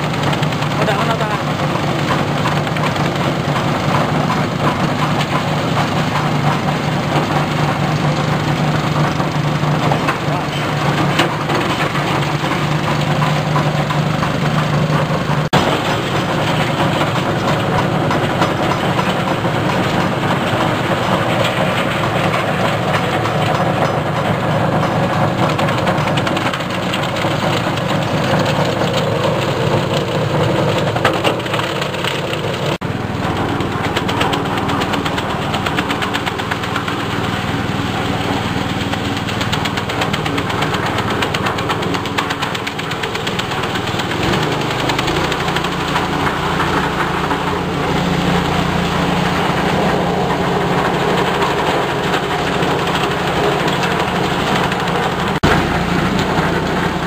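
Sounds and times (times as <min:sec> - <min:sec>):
compost shredder chopping leaves: 0:00.0 - 0:57.0.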